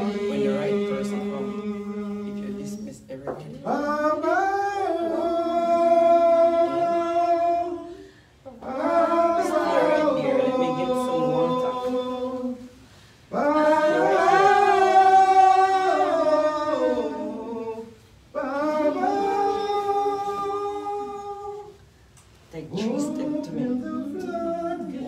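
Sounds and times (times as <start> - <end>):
person singing unaccompanied: 0.0 - 12.7, 13.3 - 21.8, 22.7 - 25.0.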